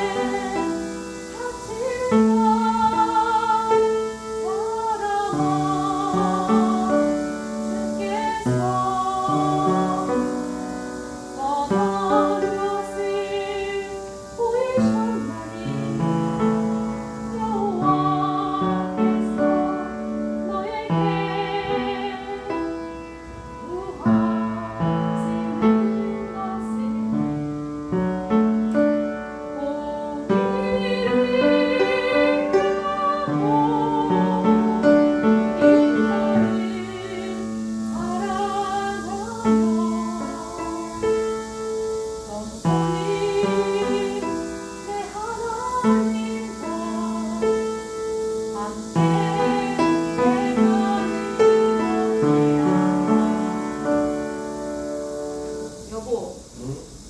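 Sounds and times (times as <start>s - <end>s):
woman singing with vibrato: 0.0s - 54.4s
piano accompaniment: 0.0s - 57.0s.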